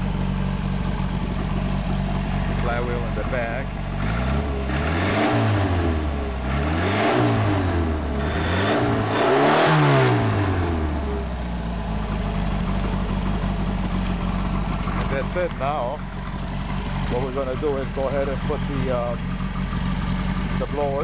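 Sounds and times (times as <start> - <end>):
engine revving and idling: 0.0 - 21.0.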